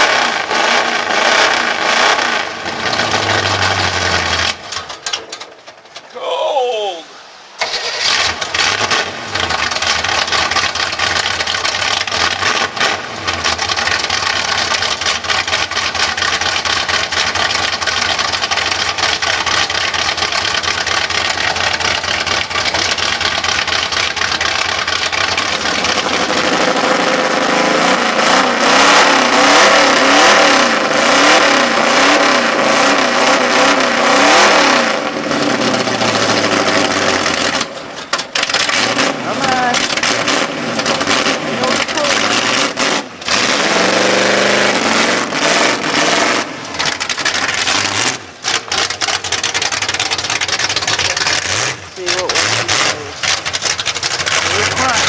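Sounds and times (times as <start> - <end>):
truck engine running and revving: 0.0 - 5.2, 8.0 - 55.0.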